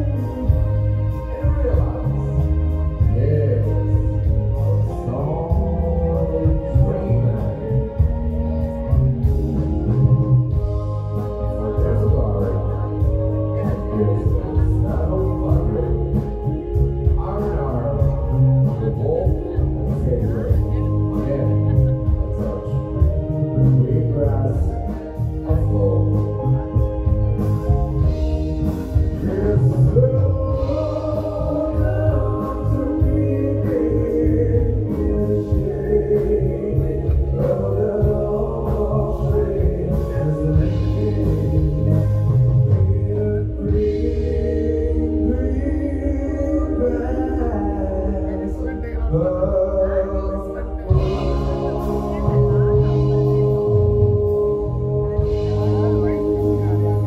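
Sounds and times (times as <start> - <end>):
live band playing: 0.0 - 57.0
man singing: 0.0 - 57.0.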